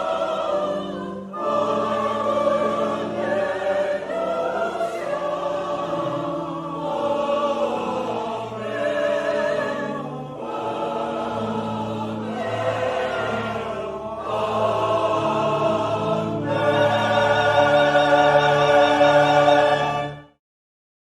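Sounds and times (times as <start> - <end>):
choir singing sustained chords: 0.0 - 20.4.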